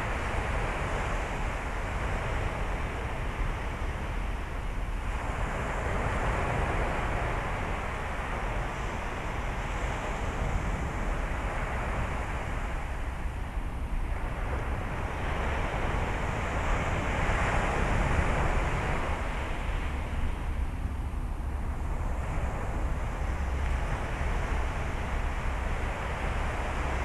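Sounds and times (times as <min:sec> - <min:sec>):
surf washing on beach: 0:00.0 - 0:27.0
wind rumbling on microphone: 0:00.0 - 0:27.0.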